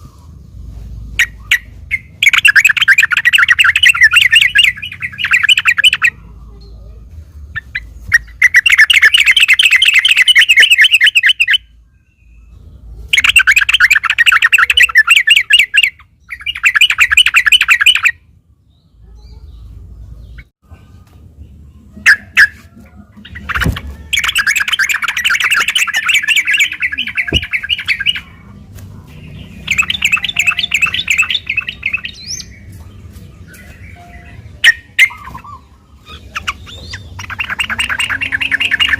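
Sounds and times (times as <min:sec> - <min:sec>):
bulbul singing fast rolling phrases: 0:00.0 - 0:38.9.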